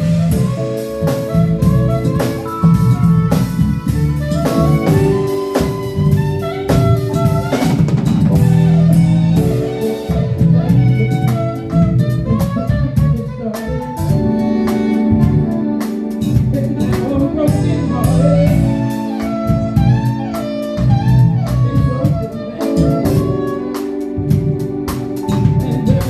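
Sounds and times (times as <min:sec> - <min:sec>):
drum kit: 0:00.0 - 0:26.0
electric bass: 0:00.0 - 0:26.0
gliding melody line: 0:00.0 - 0:26.0
keyboard chords: 0:00.0 - 0:26.0.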